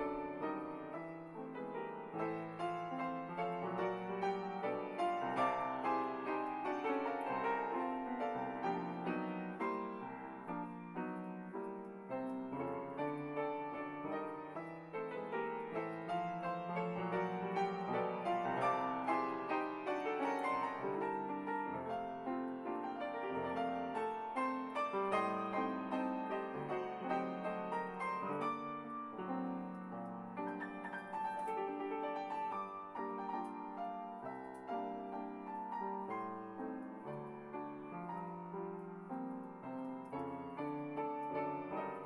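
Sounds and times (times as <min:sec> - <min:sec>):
grand piano playing: 0:00.0 - 0:42.0.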